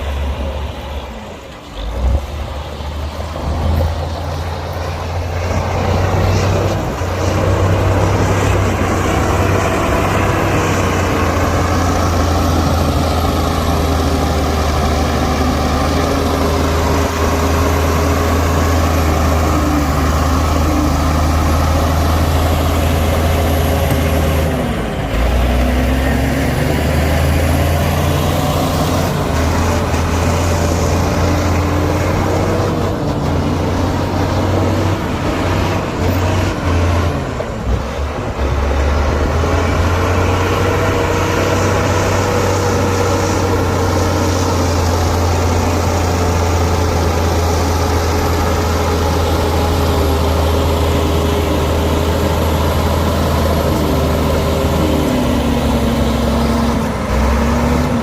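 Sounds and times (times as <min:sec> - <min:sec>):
diesel earthmoving machinery running: 0:00.0 - 0:58.0.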